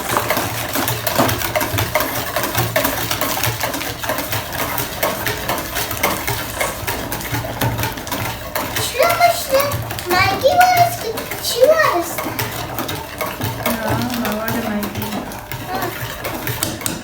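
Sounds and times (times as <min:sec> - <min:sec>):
utensil stirring batter in bowl: 0:00.0 - 0:17.0.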